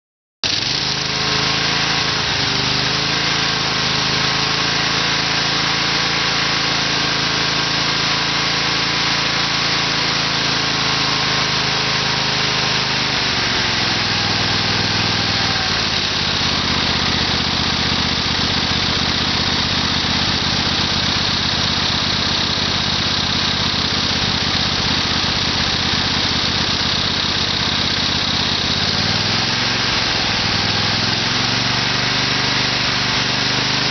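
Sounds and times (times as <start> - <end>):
twin-cylinder engine running: 0.4 - 33.9.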